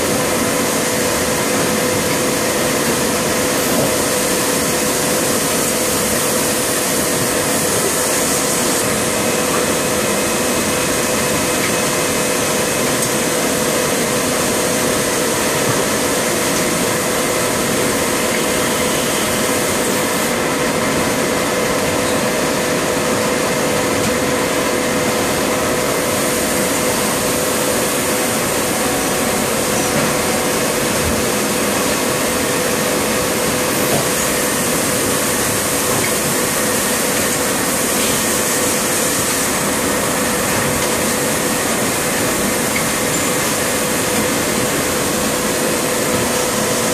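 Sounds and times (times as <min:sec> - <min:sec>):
molding machine humming and hissing: 0:00.0 - 0:46.9.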